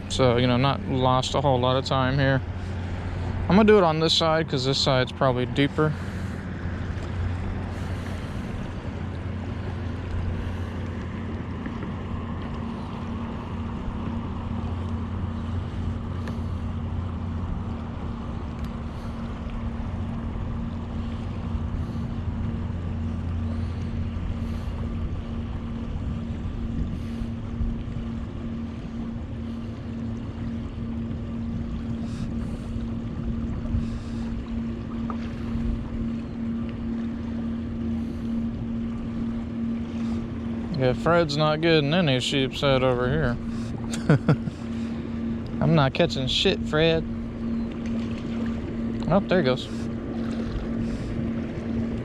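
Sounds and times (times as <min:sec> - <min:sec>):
engine humming steadily: 0:00.0 - 0:52.0.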